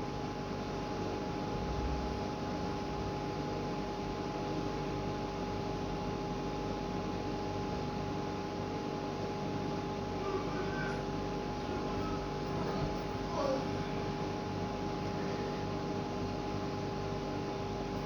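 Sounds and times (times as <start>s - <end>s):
machine hum with high tone: 0.0s - 18.0s.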